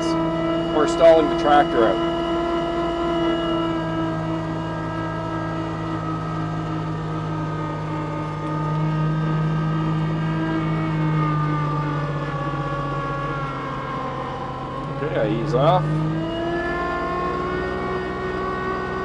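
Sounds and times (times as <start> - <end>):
tractor diesel engine at high revs: 0.0 - 19.0.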